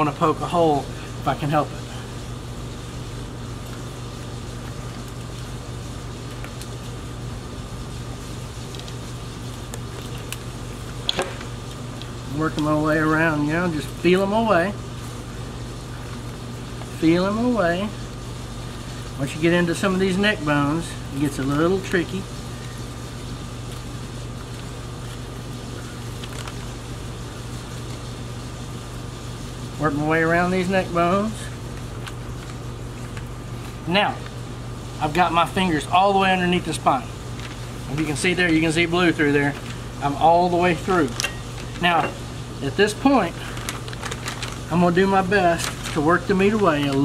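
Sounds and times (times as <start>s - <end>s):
machine humming: 0.0s - 47.0s.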